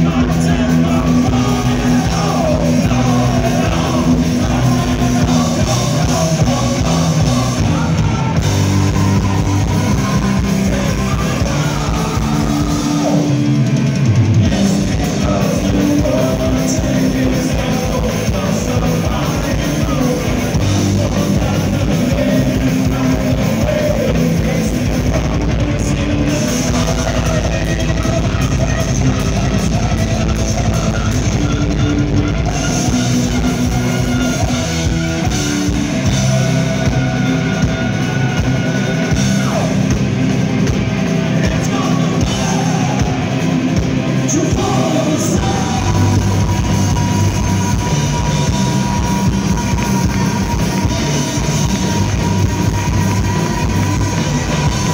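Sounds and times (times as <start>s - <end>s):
person singing: 0.0s - 34.6s, 41.2s - 54.9s
heavy metal band playing live: 0.0s - 54.9s.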